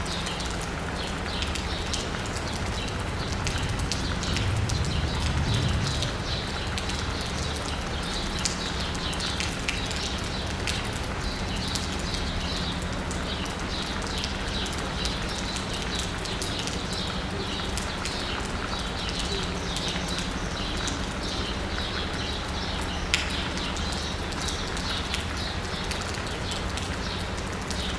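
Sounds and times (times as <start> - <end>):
rain on asphalt and rooftops: 0.0 - 27.9.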